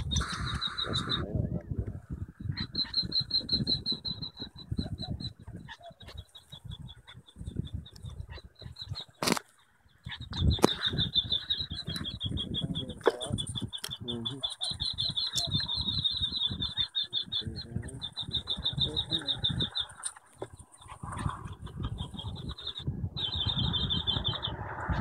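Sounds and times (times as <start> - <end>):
recorded quail call trill: 0.0 - 1.3, 2.4 - 25.0.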